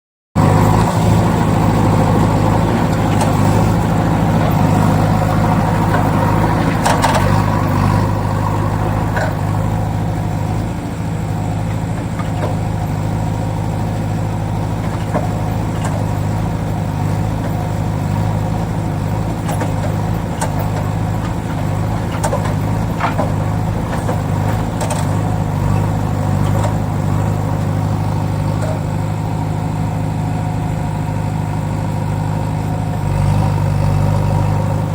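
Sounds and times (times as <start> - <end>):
steady engine-like drone: 0.4 - 34.9.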